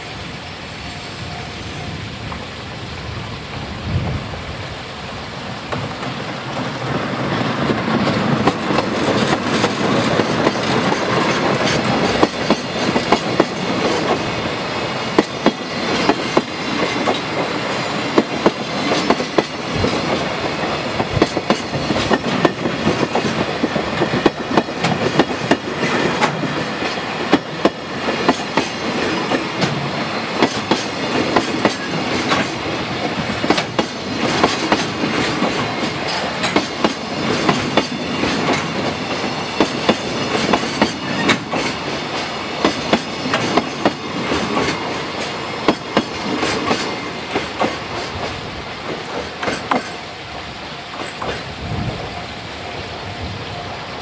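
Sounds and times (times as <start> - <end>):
train rolling roar: 0.0 - 54.0
train wheels clacking: 5.6 - 54.0.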